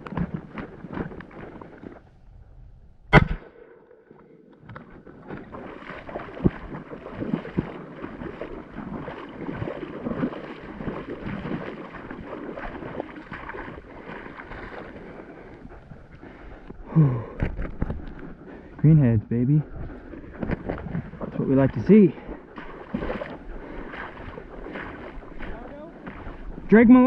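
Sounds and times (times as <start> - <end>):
water sloshing and splashing: 0.0 - 2.2, 3.9 - 18.9, 19.6 - 27.0.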